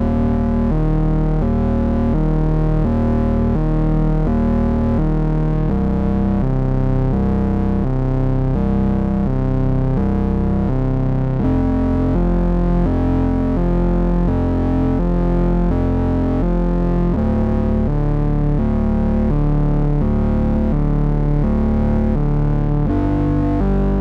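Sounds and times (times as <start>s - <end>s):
buzzy synthesizer bass line: 0.0s - 24.0s.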